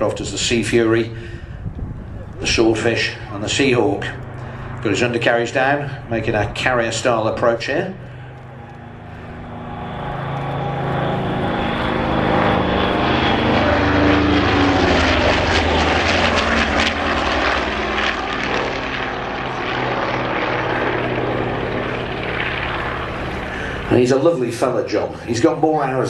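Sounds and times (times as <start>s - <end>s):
propeller plane flying past: 0.0s - 26.0s.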